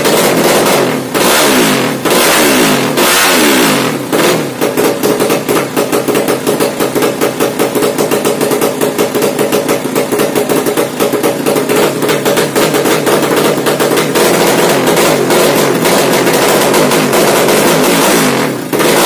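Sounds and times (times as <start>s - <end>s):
motorcycle engine idling: 0.0s - 19.0s
motorcycle throttle blips: 0.0s - 19.0s.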